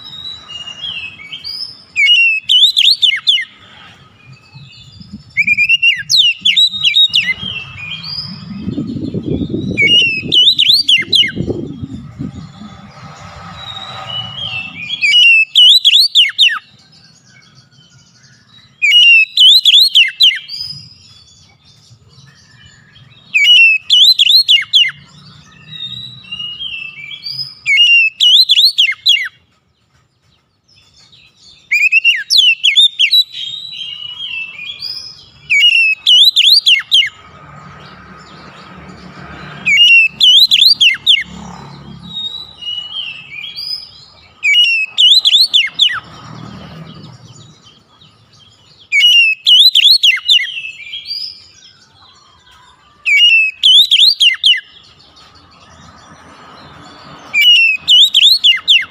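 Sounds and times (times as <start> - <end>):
bird singing whistled notes: 0.0 - 3.6, 4.2 - 29.5, 30.2 - 37.2, 39.3 - 55.3, 55.9 - 58.9.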